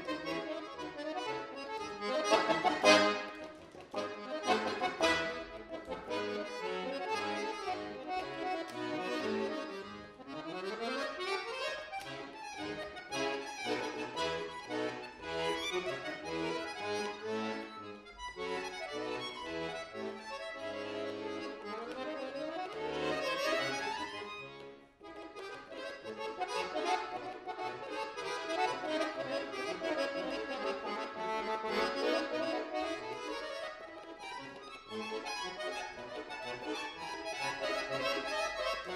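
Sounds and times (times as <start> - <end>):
button accordion playing fast: 0.0 - 38.9.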